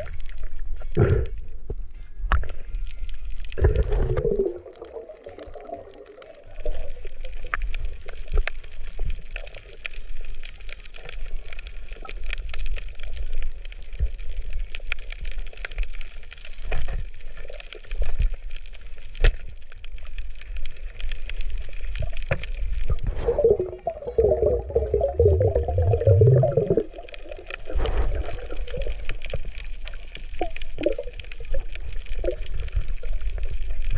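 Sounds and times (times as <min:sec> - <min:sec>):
gurgling bubbling water: 0:00.0 - 0:16.6, 0:20.7 - 0:33.9
sharp clicks and crackles: 0:00.0 - 0:33.9
underwater water noise: 0:00.0 - 0:33.9.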